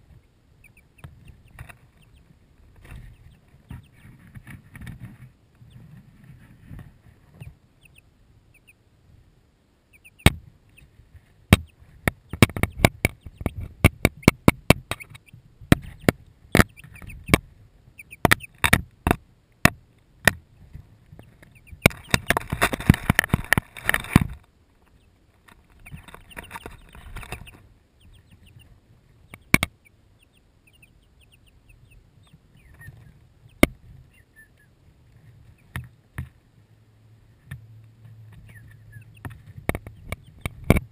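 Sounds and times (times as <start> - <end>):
chicks pecking taps: 0.6 - 5.7, 10.0 - 10.8, 11.5 - 34.7, 35.5 - 36.4, 37.4 - 40.9
chicks peeping: 0.6 - 8.8, 9.9 - 10.9, 11.5 - 19.2, 20.5 - 34.8, 35.4 - 35.9, 38.2 - 40.9.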